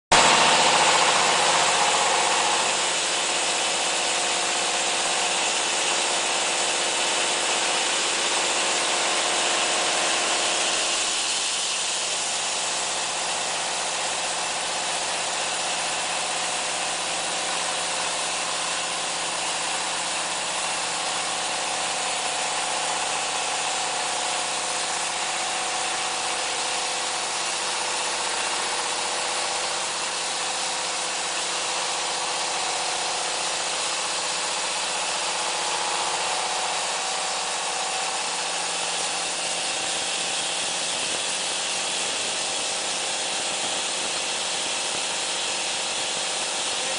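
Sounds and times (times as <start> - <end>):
diesel engine running: 0.1 - 46.9.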